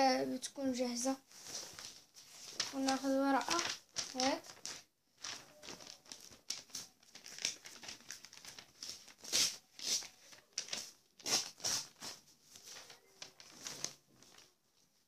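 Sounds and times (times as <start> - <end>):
paper rustling: 1.0 - 15.0.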